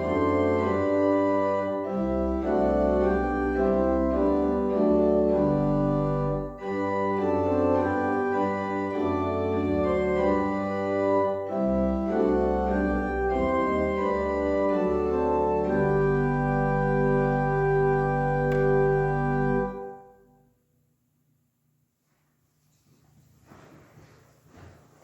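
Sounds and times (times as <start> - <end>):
organ playing chords: 0.0 - 20.5.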